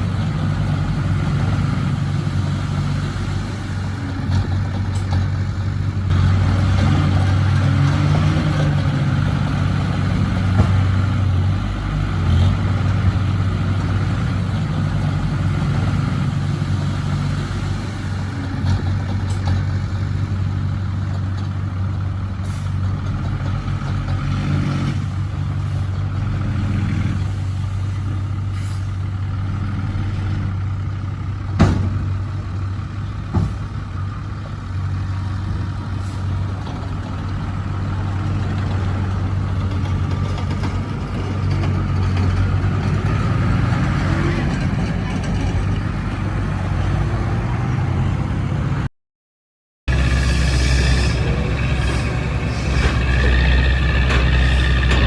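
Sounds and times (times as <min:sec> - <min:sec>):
heavy diesel engine running: 0:00.0 - 0:48.9, 0:49.9 - 0:55.0.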